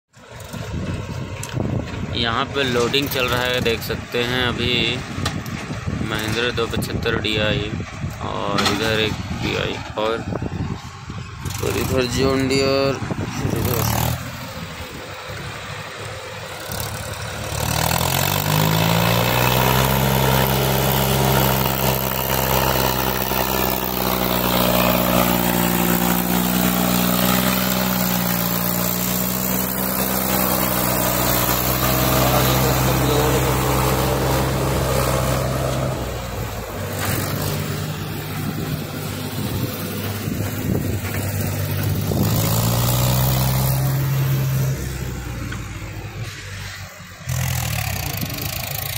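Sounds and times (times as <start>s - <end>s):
tractor diesel engine: 0.1s - 48.9s.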